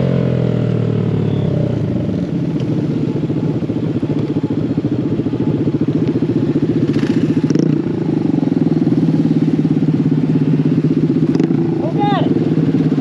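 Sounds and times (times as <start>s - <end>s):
mini bike engine running: 2.3s - 13.0s.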